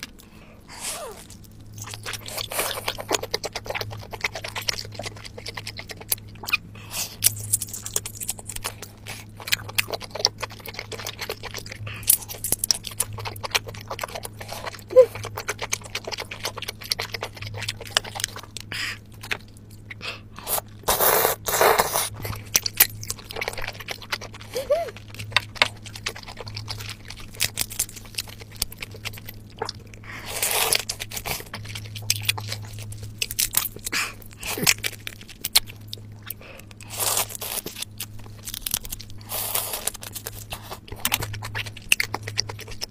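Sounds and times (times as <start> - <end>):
chewing: 0.0 - 42.9
crab shell cracking and crunching: 0.0 - 42.9.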